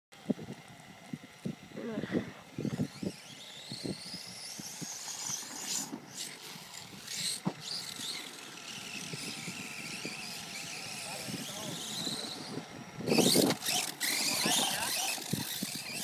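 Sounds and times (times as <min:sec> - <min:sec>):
electric motor whining: 0:00.2 - 0:16.0.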